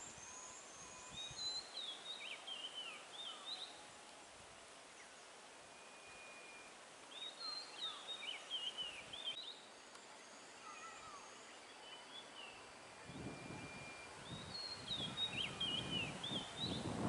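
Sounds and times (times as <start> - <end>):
birds warbling whistled calls: 0.0 - 4.0, 4.8 - 17.0
faint background hiss: 0.0 - 17.0.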